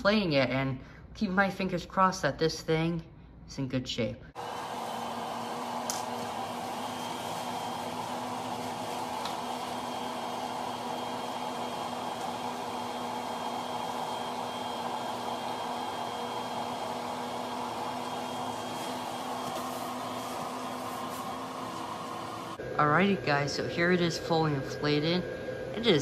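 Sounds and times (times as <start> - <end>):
blower fan whirring: 4.3 - 26.0.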